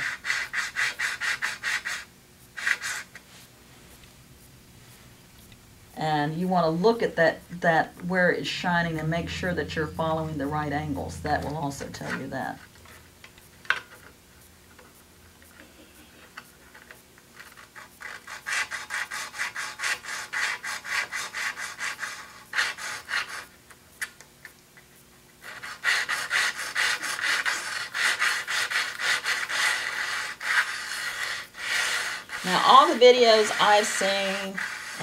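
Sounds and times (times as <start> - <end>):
hone rubbing on metal blade: 0.0 - 5.5, 6.4 - 24.0, 25.4 - 35.0.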